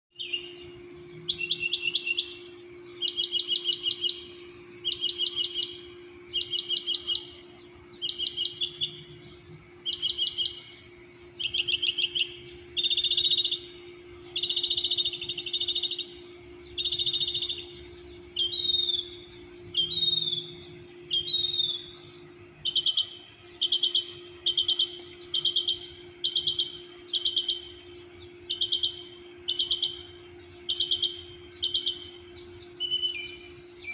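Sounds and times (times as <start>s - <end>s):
songbird singing: 0.1s - 33.9s
steady hum: 0.1s - 33.9s.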